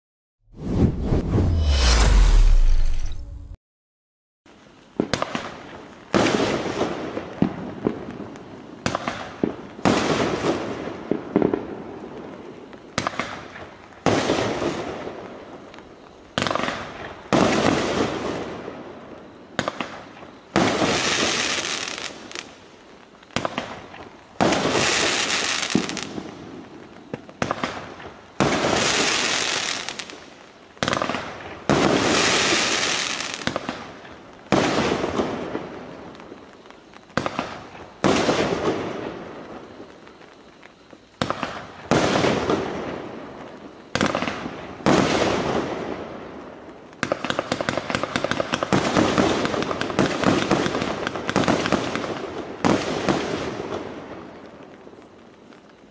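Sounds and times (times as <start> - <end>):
fireworks bursting: 0.6 - 3.6, 4.5 - 55.9.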